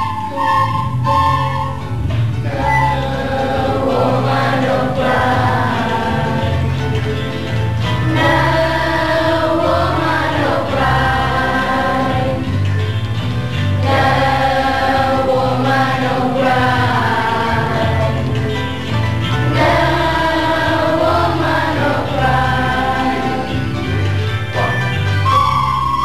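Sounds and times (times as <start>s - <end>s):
children's choir singing: 0.0s - 26.0s
low accompanying notes: 0.0s - 26.0s.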